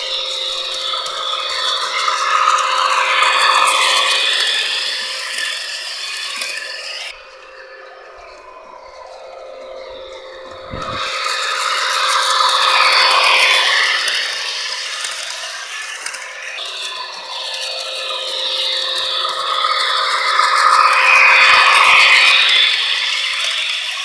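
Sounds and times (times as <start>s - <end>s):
model train gear whir: 0.0s - 24.0s.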